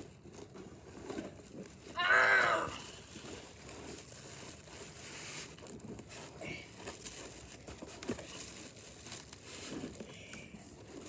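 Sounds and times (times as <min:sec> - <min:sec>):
foam and cardboard rustling: 0:00.3 - 0:11.0.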